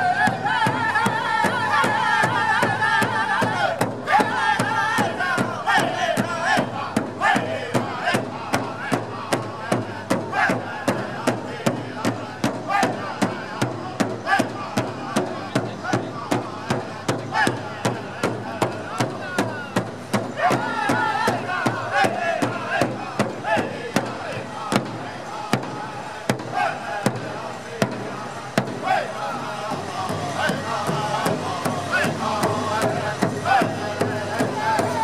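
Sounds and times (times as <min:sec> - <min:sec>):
large hide drum beating: 0:00.0 - 0:35.0
singers' high wavering voices: 0:00.0 - 0:35.0.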